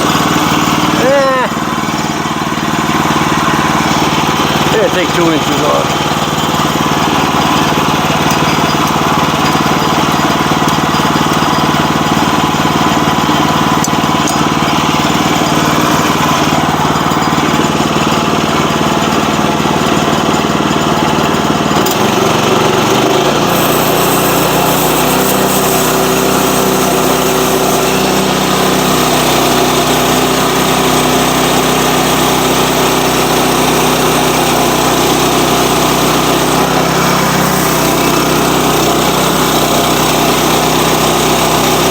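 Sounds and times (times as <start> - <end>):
small petrol engine running: 0.0 - 41.9.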